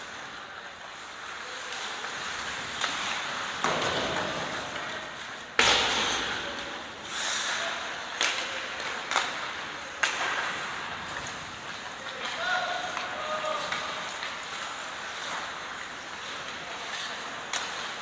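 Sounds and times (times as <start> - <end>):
sharp cracks and knocks with hiss: 1.7 - 18.0.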